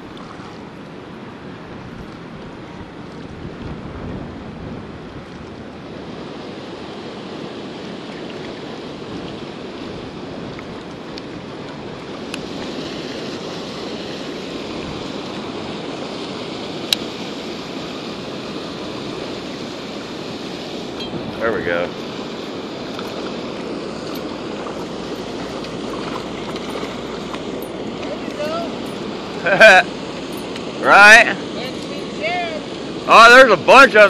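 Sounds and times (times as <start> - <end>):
wind on the microphone: 0.0 - 20.2, 20.8 - 29.2
water rushing over a weir: 0.0 - 34.0.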